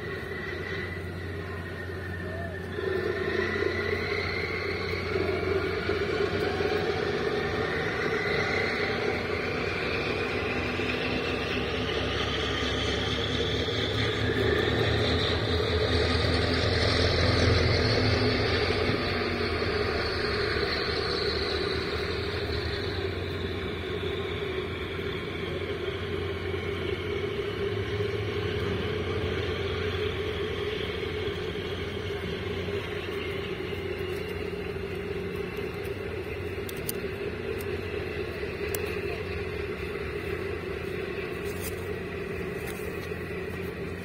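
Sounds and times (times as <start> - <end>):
ship machinery drone: 0.0 - 44.0.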